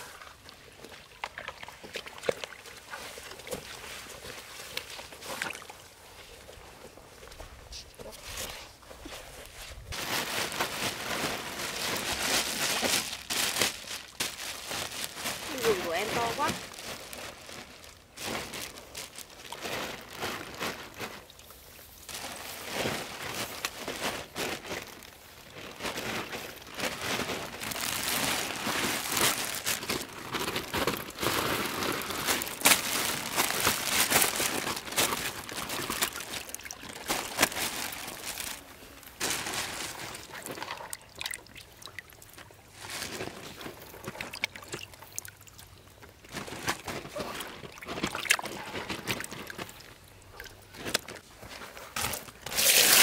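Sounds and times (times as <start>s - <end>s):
water sloshing and splashing: 0.0s - 6.6s, 8.2s - 53.0s.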